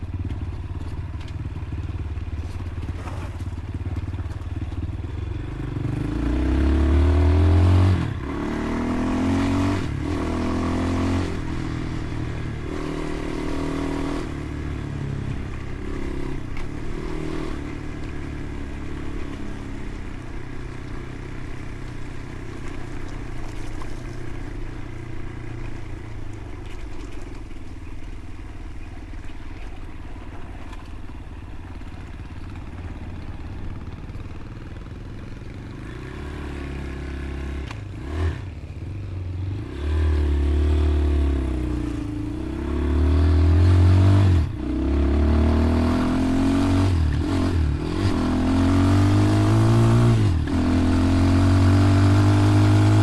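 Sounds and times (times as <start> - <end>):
motorcycle engine revving through gears: 0.0 - 53.0.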